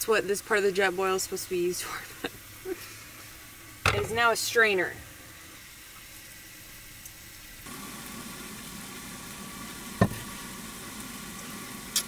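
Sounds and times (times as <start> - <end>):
chicken sizzling in a pan: 0.1 - 12.0.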